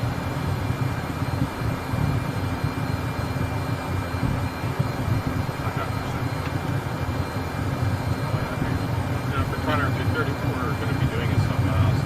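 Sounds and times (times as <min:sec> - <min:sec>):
jet engines low rumble: 0:00.0 - 0:12.0
thin high engine whine: 0:00.0 - 0:12.0.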